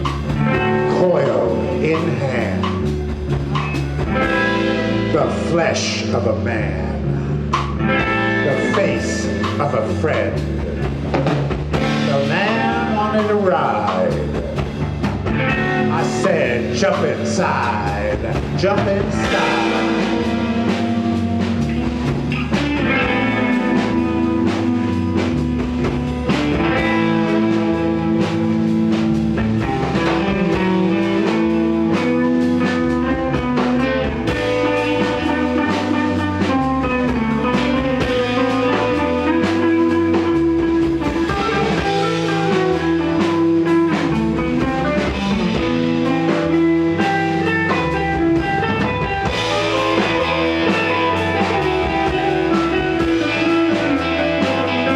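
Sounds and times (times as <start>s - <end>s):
electric guitar bending notes: 0.0s - 54.9s
live rock band: 0.0s - 54.9s.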